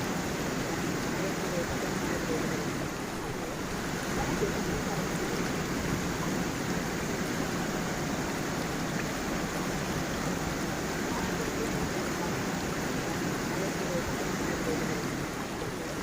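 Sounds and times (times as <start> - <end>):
water rushing over waterfall: 0.0 - 16.0.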